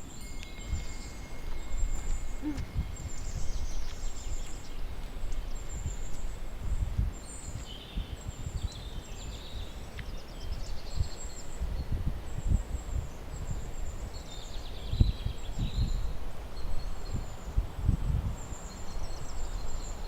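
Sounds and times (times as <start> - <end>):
birds calling with high notes: 0.0 - 17.6
lower bird chirps: 0.0 - 20.0.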